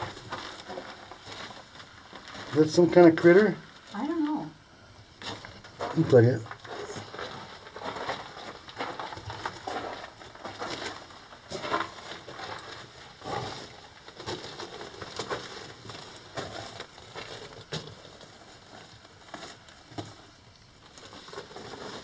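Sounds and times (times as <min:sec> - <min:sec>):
footsteps crunching on gravel: 0:00.0 - 0:03.4, 0:05.2 - 0:22.0.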